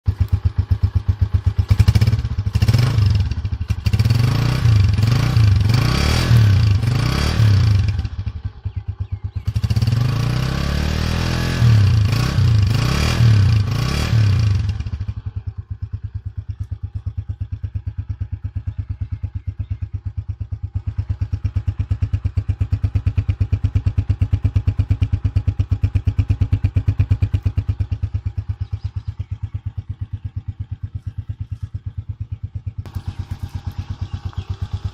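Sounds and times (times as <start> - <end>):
motorcycle engine revving and idling: 0.0 - 34.9.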